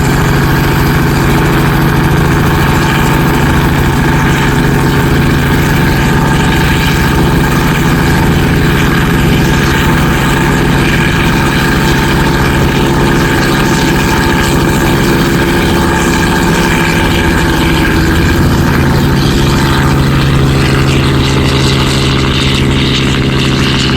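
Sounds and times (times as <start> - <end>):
engine idling: 0.0 - 23.9.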